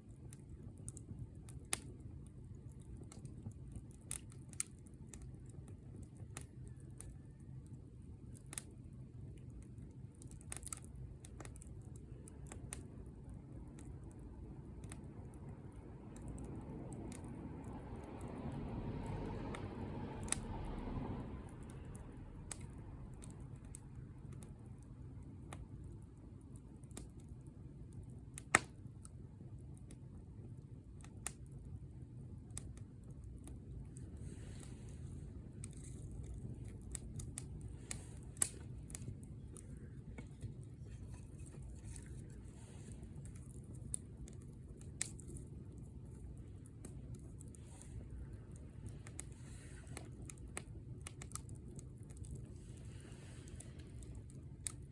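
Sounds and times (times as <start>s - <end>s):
campfire burning: 0.0s - 54.9s
fire crackles and pops: 0.0s - 54.9s.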